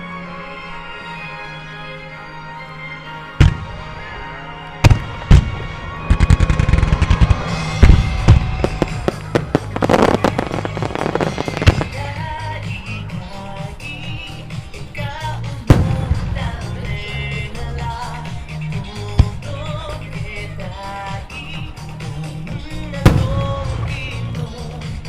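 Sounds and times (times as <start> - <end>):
music: 0.0 - 25.0
fireworks bangs and crackling: 3.4 - 25.0.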